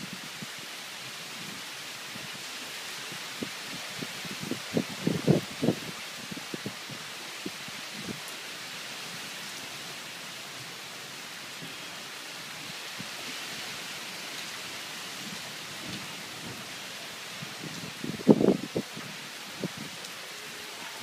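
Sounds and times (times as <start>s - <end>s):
rain and wind hiss: 0.0s - 21.0s
wind-blown foliage: 0.0s - 21.0s.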